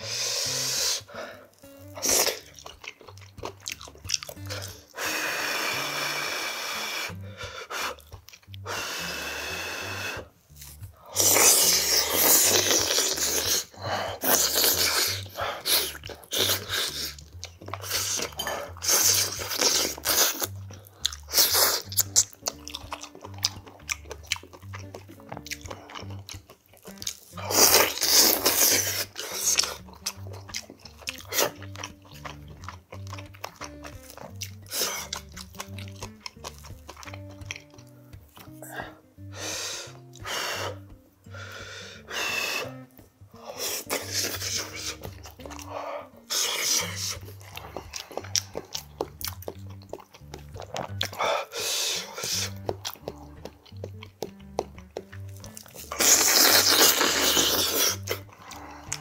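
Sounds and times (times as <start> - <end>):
man chewing and crunching: 0.0 - 59.0
soft background music: 0.0 - 59.0.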